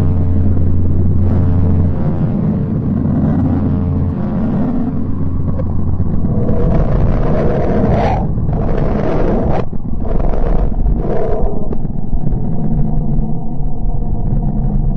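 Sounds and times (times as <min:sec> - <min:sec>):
deep steady rumble: 0:00.0 - 0:14.9.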